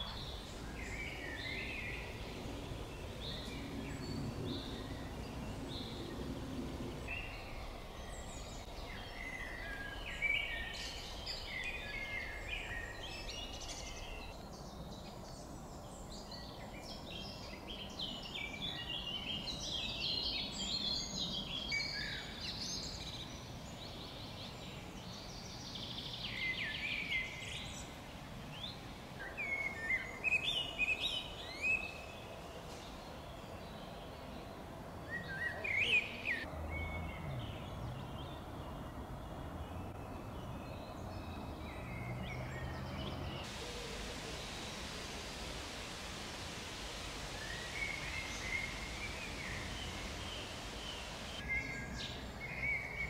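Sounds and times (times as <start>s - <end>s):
low background noise: 0.0s - 53.0s
songbirds chirping and trilling: 0.0s - 53.0s.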